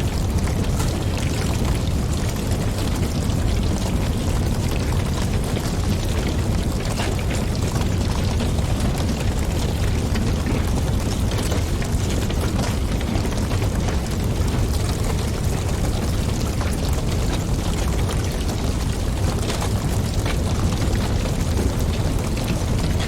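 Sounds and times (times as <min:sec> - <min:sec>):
low rumble of flames: 0:00.0 - 0:23.0
wind: 0:00.0 - 0:23.0
wood fire crackling: 0:00.0 - 0:23.0.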